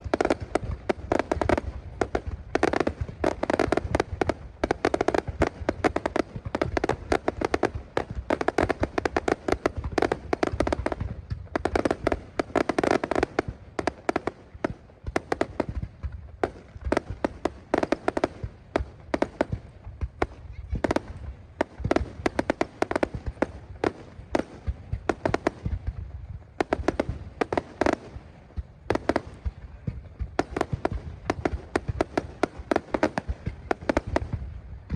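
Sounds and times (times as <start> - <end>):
fireworks crackling pops: 0.0 - 34.9.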